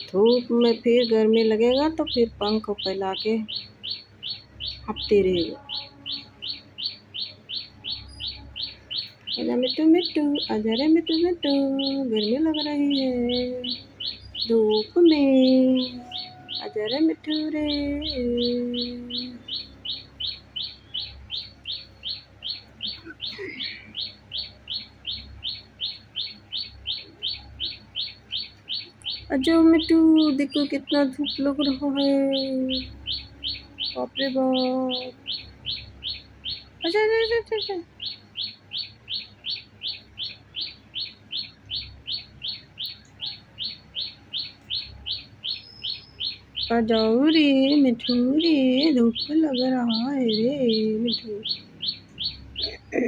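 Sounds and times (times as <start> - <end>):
bird chirping: 0.0 - 53.0.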